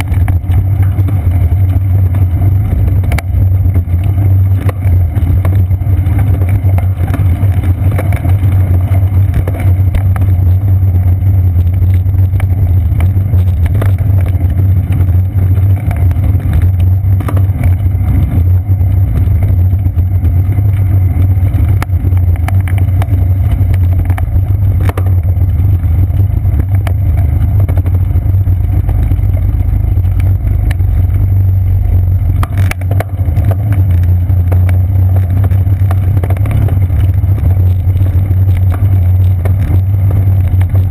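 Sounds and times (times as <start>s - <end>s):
bicycle knocking over bumps: 0.0s - 40.9s
bike rolling on wooden boardwalk: 0.0s - 40.9s
wind and ride vibration rumble: 0.0s - 40.9s.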